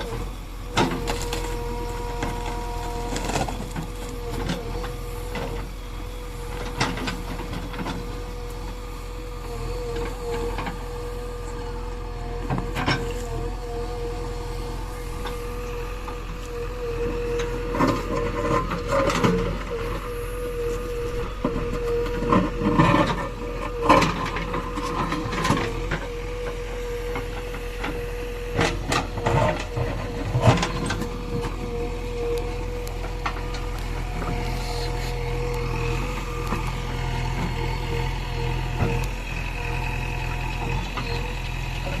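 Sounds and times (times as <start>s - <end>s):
diesel engine whining: 0.0s - 42.0s.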